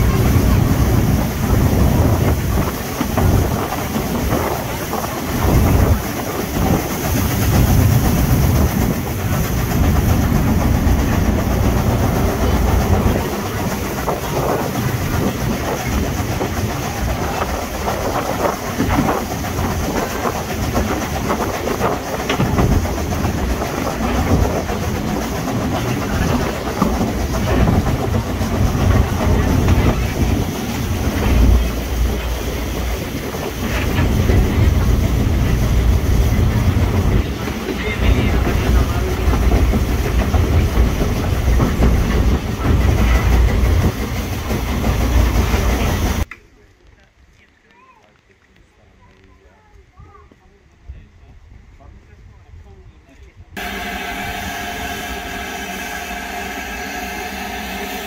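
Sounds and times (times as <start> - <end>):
wheels clicking over track: 0.0 - 49.3
train carriage rumble: 0.0 - 58.0.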